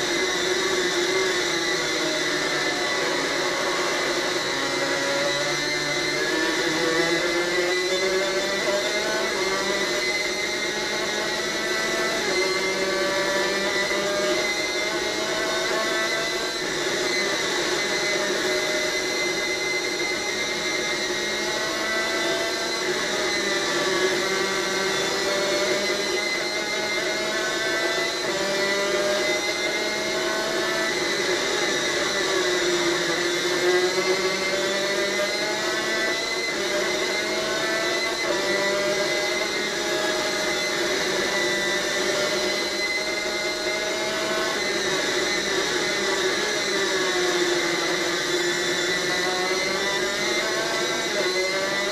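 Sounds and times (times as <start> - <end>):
two-stroke engine racing: 0.0 - 20.3, 21.1 - 51.9.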